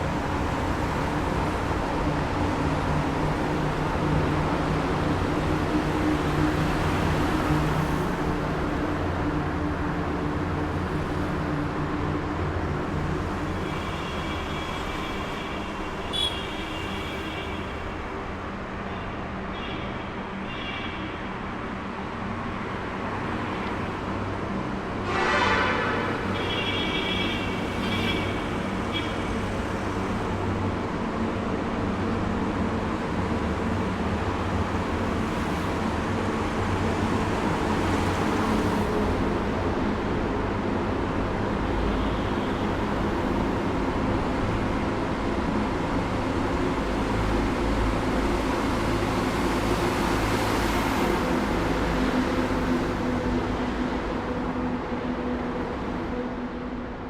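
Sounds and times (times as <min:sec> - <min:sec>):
traffic rumble in tunnel: 0:00.0 - 0:57.0.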